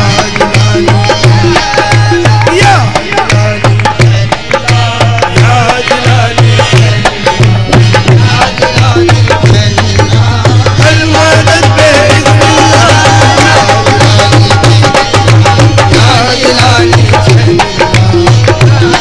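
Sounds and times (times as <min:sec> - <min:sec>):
tabla drumming: 0:00.0 - 0:19.0.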